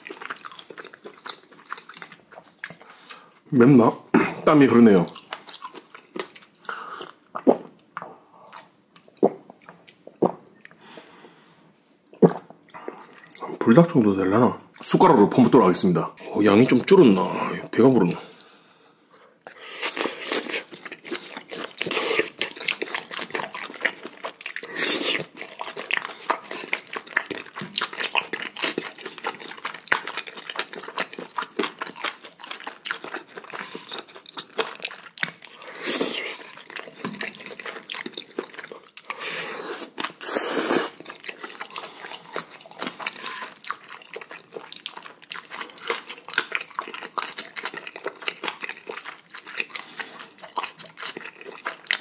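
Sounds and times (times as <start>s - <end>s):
close chewing with wet mouth sounds: 0.0s - 3.4s, 5.0s - 10.8s, 19.5s - 52.0s.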